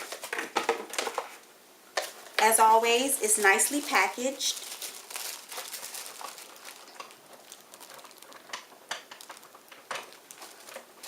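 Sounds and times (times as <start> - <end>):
rustling of box packaging: 0.0 - 11.0.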